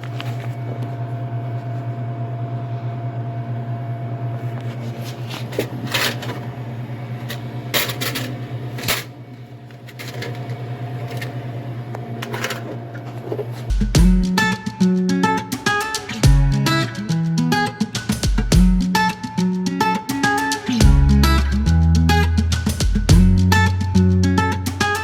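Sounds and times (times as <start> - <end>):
vending machine hum: 0.0 - 25.0.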